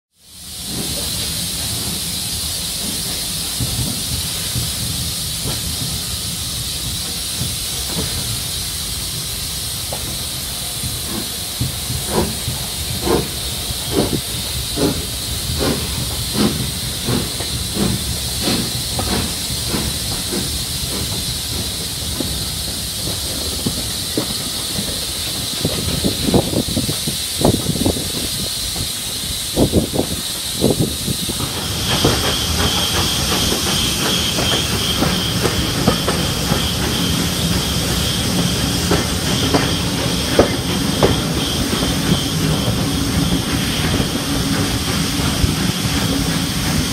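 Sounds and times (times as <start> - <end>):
steam hissing: 0.1 - 46.9
steam locomotive exhaust chuffs: 0.1 - 46.9.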